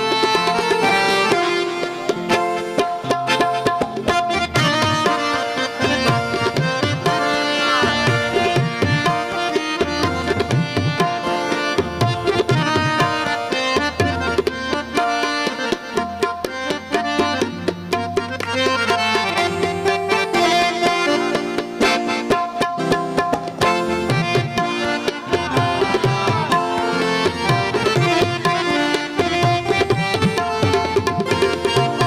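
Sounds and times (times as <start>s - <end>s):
tabla drumming: 0.0s - 32.0s.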